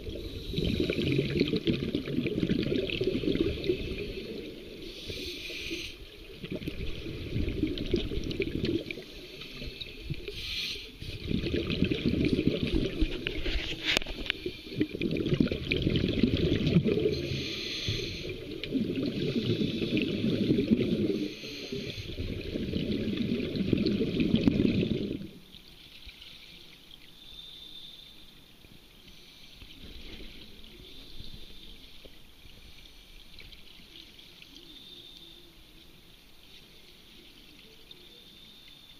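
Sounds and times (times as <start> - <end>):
underwater bubbles gurgling: 0.0 - 27.4, 28.6 - 38.9.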